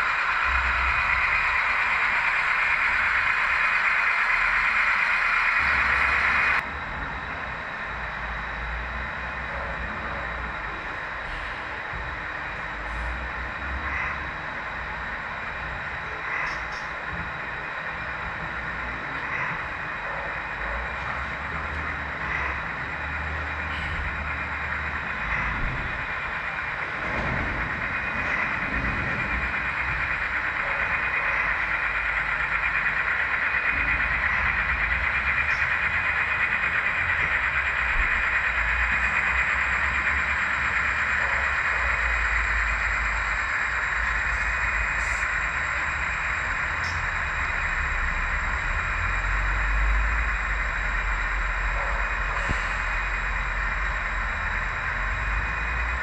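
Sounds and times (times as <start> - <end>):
model train whirring rumble: 0.0 - 56.0.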